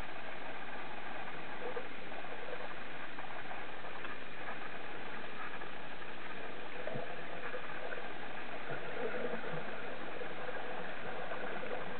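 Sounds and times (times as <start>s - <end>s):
faint hum: 0.0s - 11.9s
underwater hiss and crackle: 0.0s - 11.9s.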